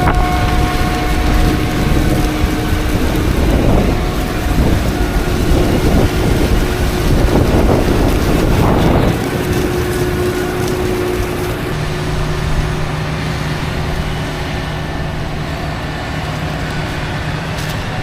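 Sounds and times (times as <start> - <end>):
heavy farm machinery running: 0.0 - 18.0
wind noise on microphone: 0.0 - 18.0.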